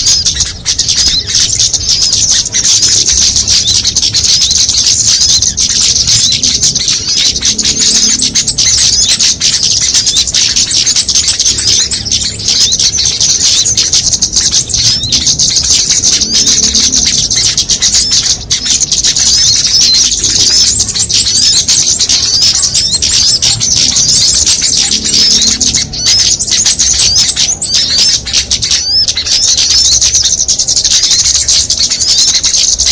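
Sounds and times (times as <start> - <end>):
songbirds chirping and twittering: 0.0 - 32.9.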